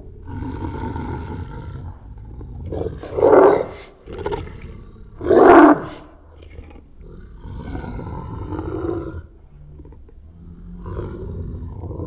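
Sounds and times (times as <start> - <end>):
slowed puppy growls: 0.0 - 12.0.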